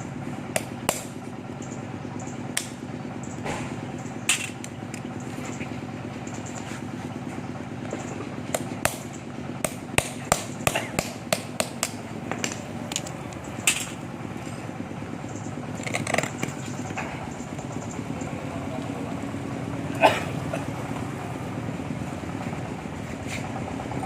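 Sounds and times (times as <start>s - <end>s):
electric pump motor running: 0.0s - 24.0s.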